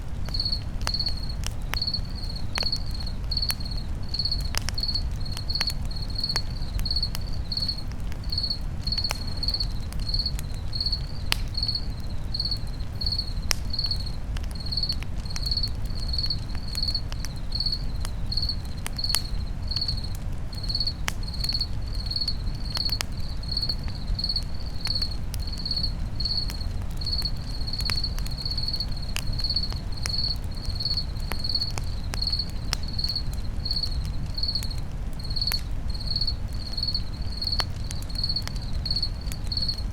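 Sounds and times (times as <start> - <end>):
campfire crackling and popping: 0.0 - 39.9
cricket chirping: 0.2 - 39.9.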